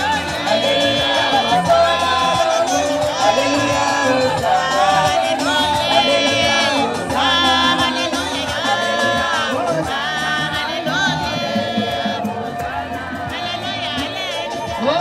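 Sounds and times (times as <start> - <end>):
crowd of women singing: 0.0 - 15.0.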